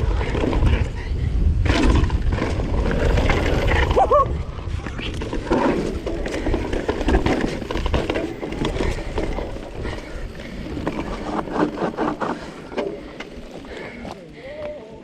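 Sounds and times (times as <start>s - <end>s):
wind rumble on microphone: 0.0s - 12.6s
bike tyres rolling and rattling: 0.0s - 15.0s.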